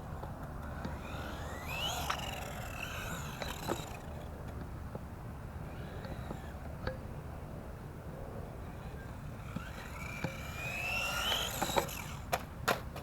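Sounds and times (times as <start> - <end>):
electric motor whining: 0.0 - 6.9, 8.6 - 12.4.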